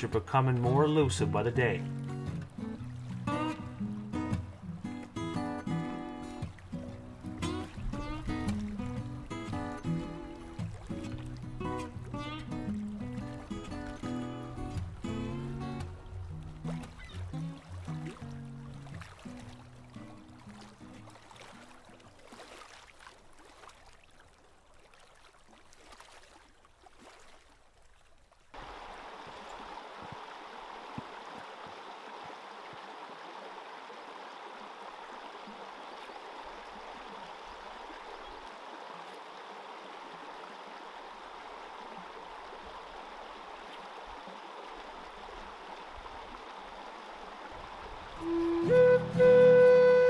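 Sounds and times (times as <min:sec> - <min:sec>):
water rushing over rocks: 0:00.0 - 0:23.6, 0:28.5 - 0:50.0.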